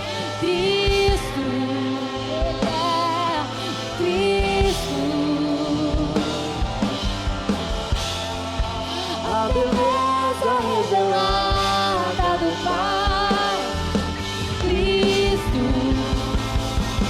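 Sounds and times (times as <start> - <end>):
slow worship band music: 0.0 - 17.0.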